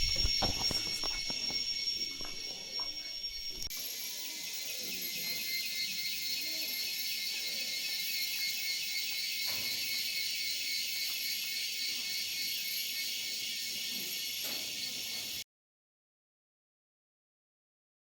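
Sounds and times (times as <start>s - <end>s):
insect chorus buzzing: 0.0s - 15.4s.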